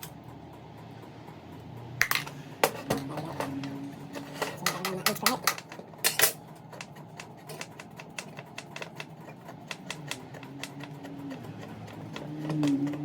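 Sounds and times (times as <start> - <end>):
heater low hum: 0.0 - 13.0.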